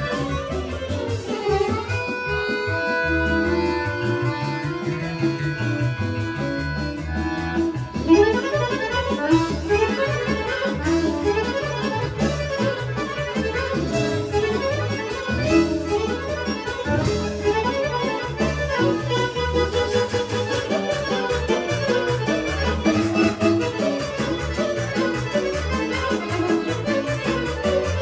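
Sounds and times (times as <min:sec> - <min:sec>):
accordion melody: 0:00.0 - 0:28.0
folk orchestra playing: 0:00.0 - 0:28.0.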